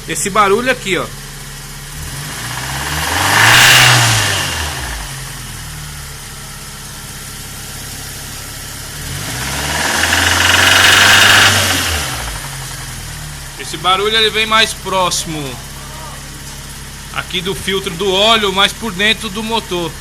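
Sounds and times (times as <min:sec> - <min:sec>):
car engine idling and revving: 0:00.0 - 0:20.0
internal engine noise: 0:00.0 - 0:20.0.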